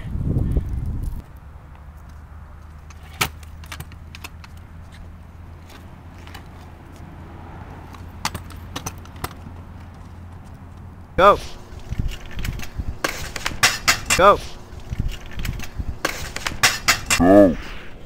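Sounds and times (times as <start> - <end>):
kick scooter clacking on concrete: 0.4 - 17.3.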